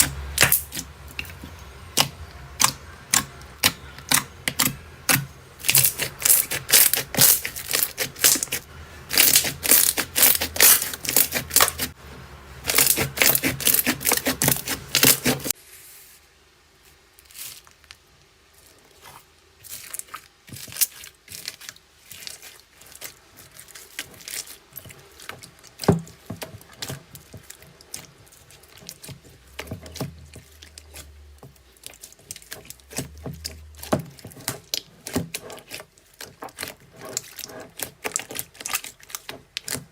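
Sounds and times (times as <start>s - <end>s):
slime crackling and popping: 0.0s - 12.0s, 19.6s - 39.9s.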